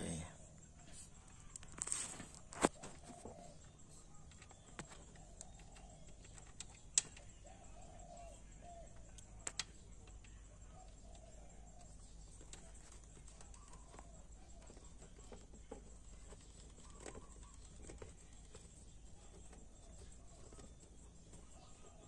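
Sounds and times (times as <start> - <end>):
quiet background hum: 0.0 - 22.0.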